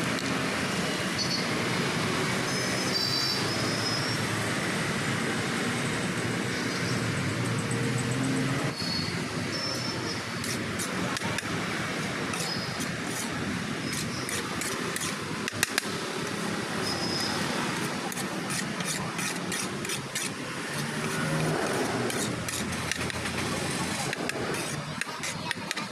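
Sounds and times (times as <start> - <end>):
street noise: 0.0 - 25.9.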